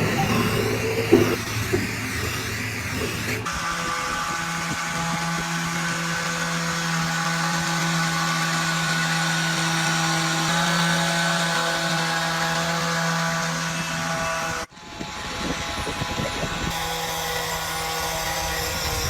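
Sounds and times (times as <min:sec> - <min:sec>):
electric power tool running: 0:00.0 - 0:19.0.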